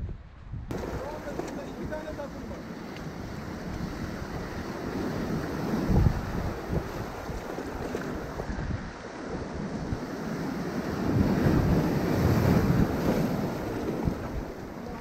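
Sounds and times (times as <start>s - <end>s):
wind buffeting microphone: 0.0s - 15.0s
waves breaking over rocks: 0.7s - 15.0s.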